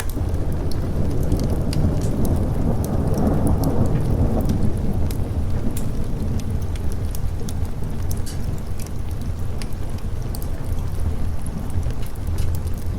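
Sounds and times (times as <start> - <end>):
steady rain: 0.0 - 12.9
thunder rumbling: 0.0 - 12.9.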